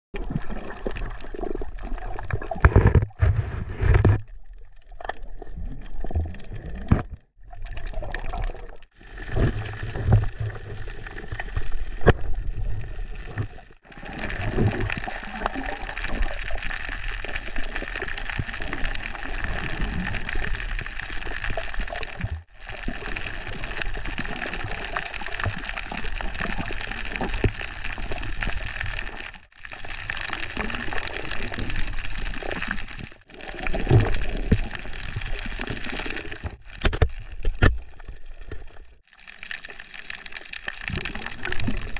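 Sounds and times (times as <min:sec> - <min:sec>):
underwater gurgling and sloshing: 0:00.2 - 0:41.9.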